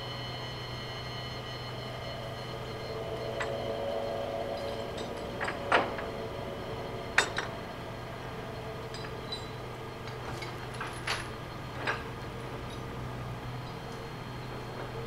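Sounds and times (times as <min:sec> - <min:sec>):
low hum: 0:00.0 - 0:14.8.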